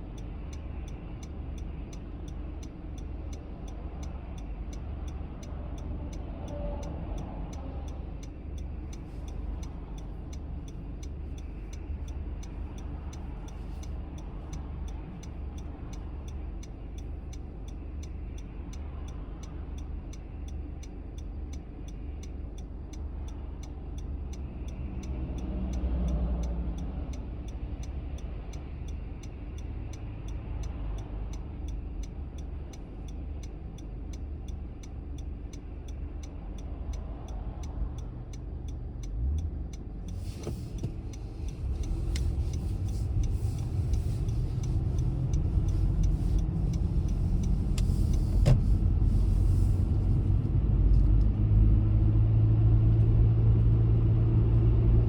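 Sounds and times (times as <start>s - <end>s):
car engine and road noise: 0.0s - 55.0s
faint even ticking: 0.2s - 49.6s.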